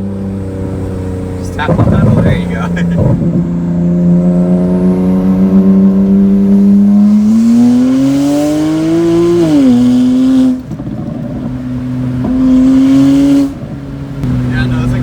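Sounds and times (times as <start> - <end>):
loud car exhaust accelerating: 0.0 - 15.0.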